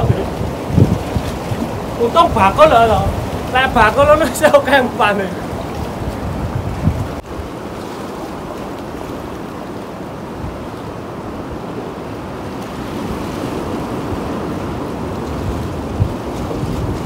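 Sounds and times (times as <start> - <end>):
surf washing against rocks: 0.0 - 17.0
wind on microphone: 0.0 - 17.0.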